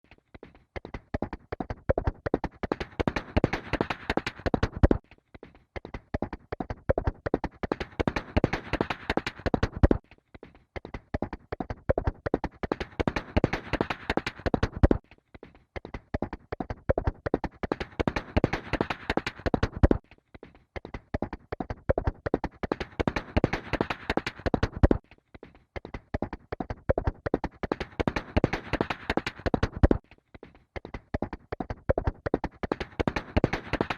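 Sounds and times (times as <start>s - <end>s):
horse galloping hoofbeats: 0.1s - 5.1s, 5.8s - 10.0s, 10.8s - 15.0s, 15.8s - 20.0s, 20.8s - 25.0s, 25.8s - 30.1s, 30.8s - 33.9s.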